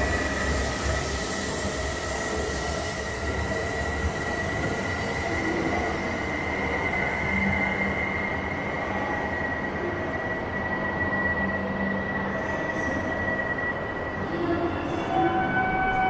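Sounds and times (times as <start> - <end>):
high-pitched train whine: 0.0 - 16.0
train rumble: 0.0 - 16.0.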